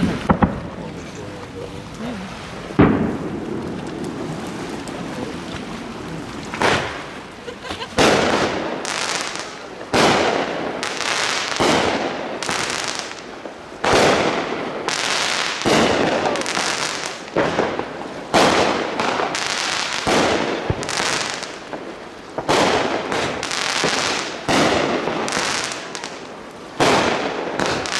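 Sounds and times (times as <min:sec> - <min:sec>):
firework bangs: 0:00.0 - 0:01.7, 0:02.5 - 0:27.9
firework crackle: 0:00.0 - 0:27.9.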